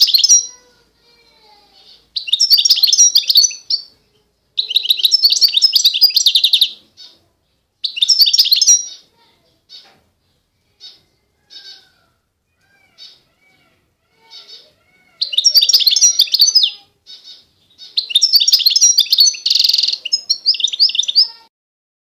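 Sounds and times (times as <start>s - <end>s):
finch singing: 0.0s - 21.5s.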